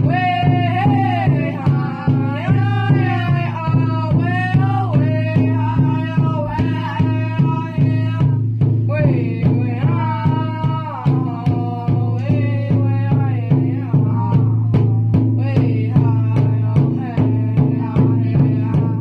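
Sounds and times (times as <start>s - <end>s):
high-pitched group singing: 0.0s - 8.3s, 8.9s - 19.0s
steady unison drumbeat: 0.0s - 19.0s.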